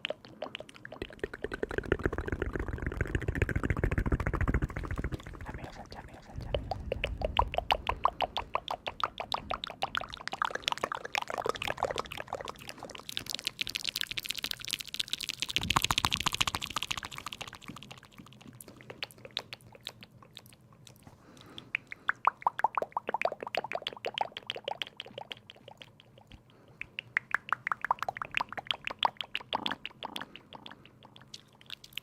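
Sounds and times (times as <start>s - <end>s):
rapid close-up tapping and clicking: 0.0s - 22.3s, 23.0s - 32.0s.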